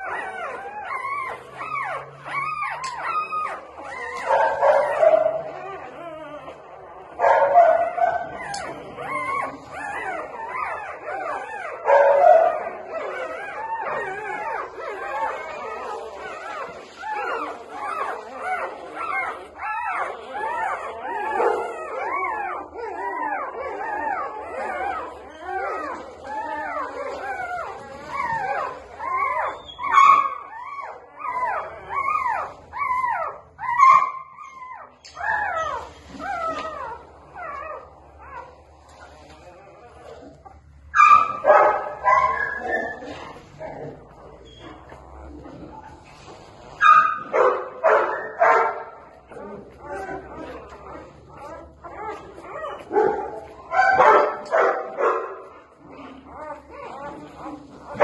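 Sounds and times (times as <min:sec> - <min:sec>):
puppies crying and whimpering: 0:00.0 - 0:58.0.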